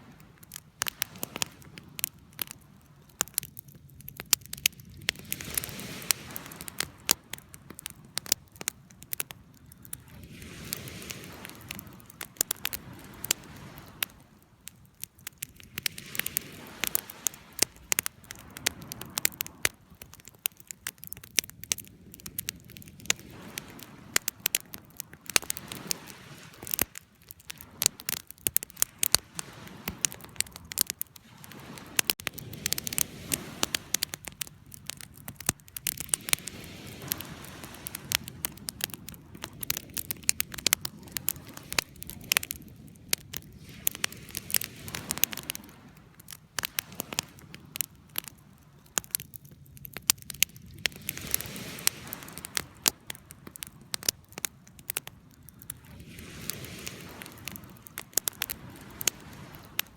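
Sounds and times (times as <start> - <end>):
campfire crackling: 0.0 - 59.9
low rumble of burning: 0.0 - 59.9
sharp fire pops: 0.4 - 59.9.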